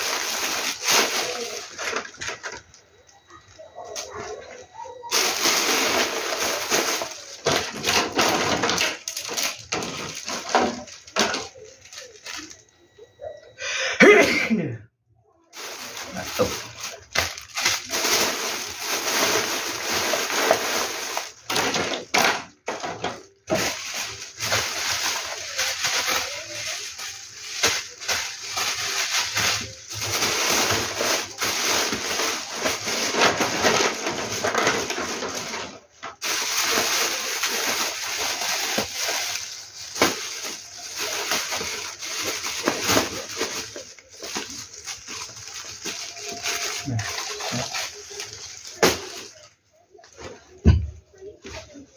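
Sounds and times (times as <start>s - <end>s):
plastic wrappers crinkling: 0.0s - 13.4s, 15.5s - 51.8s.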